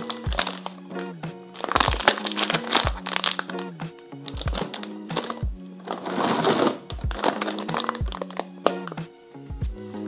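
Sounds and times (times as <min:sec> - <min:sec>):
plastic bags crinkling: 0:00.0 - 0:00.8, 0:01.5 - 0:09.0
background music with beat: 0:00.0 - 0:10.0.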